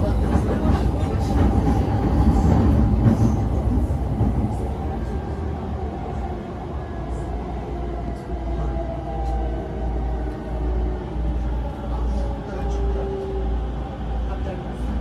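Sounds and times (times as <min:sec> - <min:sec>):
train rumbling inside carriage: 0:00.0 - 0:15.0.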